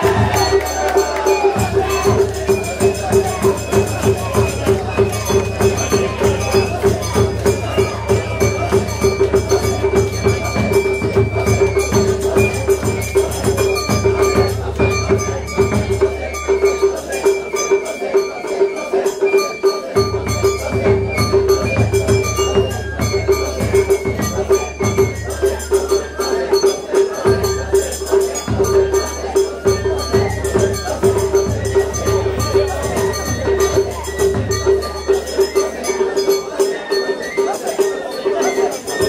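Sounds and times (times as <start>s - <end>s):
festival percussion and held tones: 0.0s - 39.0s.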